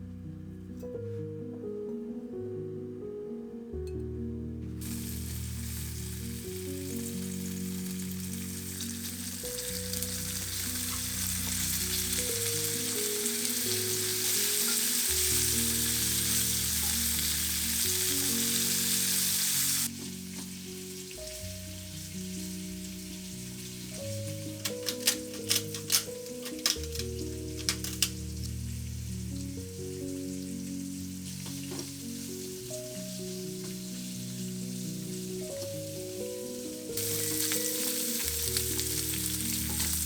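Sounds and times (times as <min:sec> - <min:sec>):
soft background music: 0:00.0 - 0:40.0
food sizzling in a frying pan: 0:04.8 - 0:40.0.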